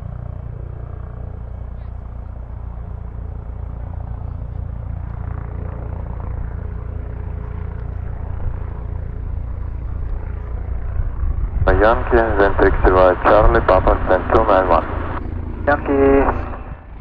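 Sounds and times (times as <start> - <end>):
helicopter rotor beat: 0.0 - 17.0
turbine whine: 0.0 - 17.0.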